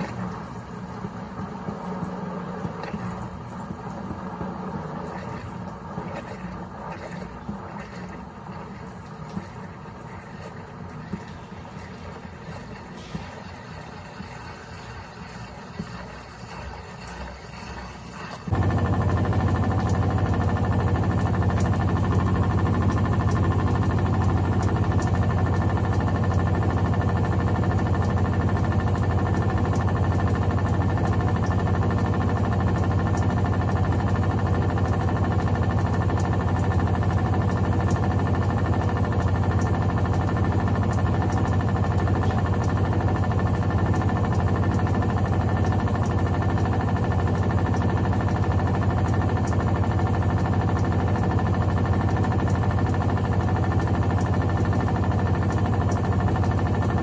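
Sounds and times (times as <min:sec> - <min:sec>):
washing machine spinning hum: 0:00.0 - 0:57.0.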